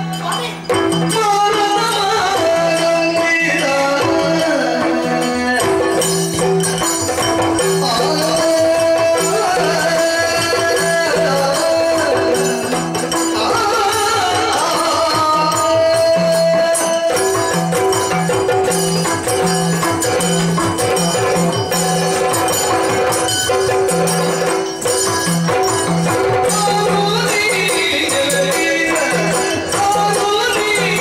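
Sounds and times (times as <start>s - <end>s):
drums playing brisk rhythm: 0.0s - 31.0s
hand cymbals clashing: 0.0s - 31.0s.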